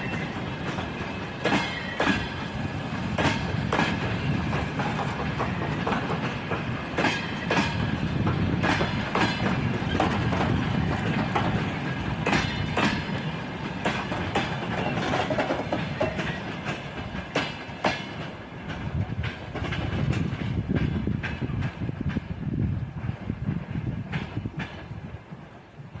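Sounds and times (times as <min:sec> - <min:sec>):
train wheels clattering over rail joints: 0:00.0 - 0:25.9.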